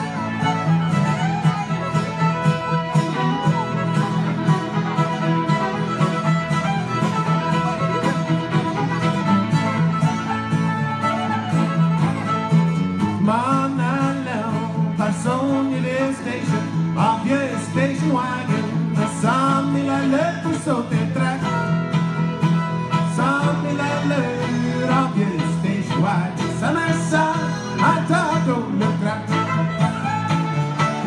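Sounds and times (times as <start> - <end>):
acoustic guitar: 0.0 - 31.0
fiddle tune: 0.0 - 31.0.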